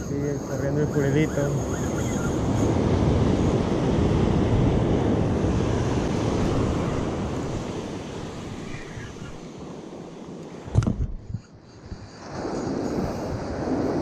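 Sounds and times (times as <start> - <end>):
surf breaking on beach: 0.0 - 11.2, 11.8 - 14.0
wind on microphone: 0.0 - 14.0.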